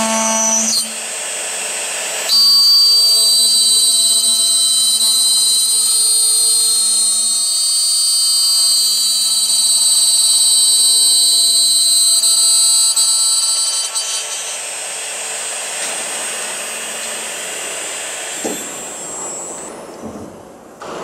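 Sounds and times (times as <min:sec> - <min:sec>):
milling spindle whining: 0:00.0 - 0:20.0.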